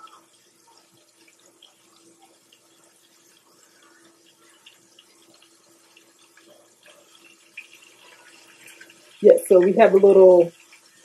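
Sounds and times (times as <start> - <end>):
patties sizzling in oil: 0.0 - 11.0.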